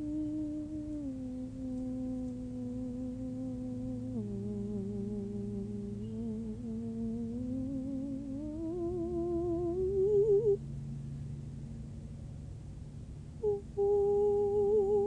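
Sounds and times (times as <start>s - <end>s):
woman humming: 0.0s - 10.6s, 13.4s - 15.0s
low steady tone: 0.0s - 15.0s.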